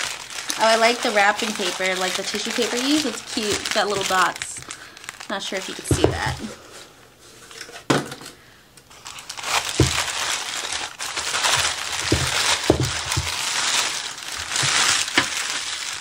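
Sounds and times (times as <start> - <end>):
tissue paper crinkling: 0.0 - 6.6, 8.9 - 16.0.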